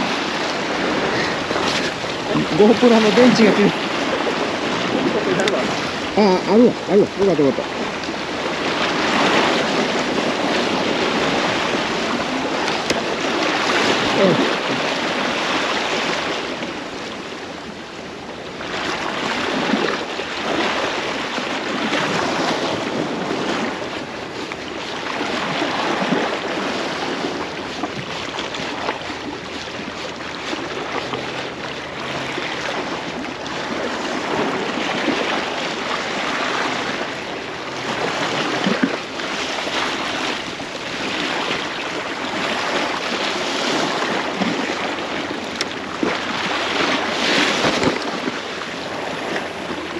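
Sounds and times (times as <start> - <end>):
sea waves on rocky shore: 0.0 - 49.9
wind buffeting microphone: 0.0 - 49.9.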